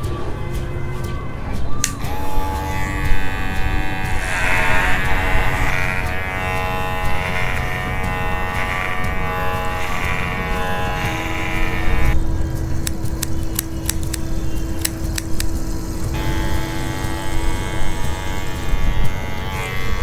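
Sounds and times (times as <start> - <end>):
hair clippers buzzing: 1.8 - 20.0.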